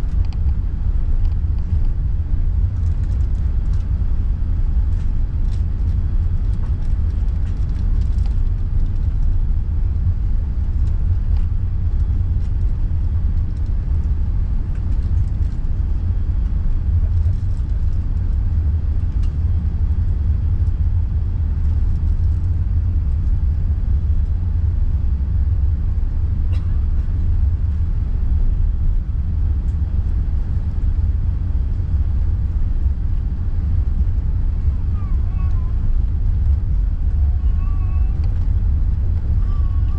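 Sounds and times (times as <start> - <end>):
aircraft engines rumbling in cabin: 0.0 - 39.9.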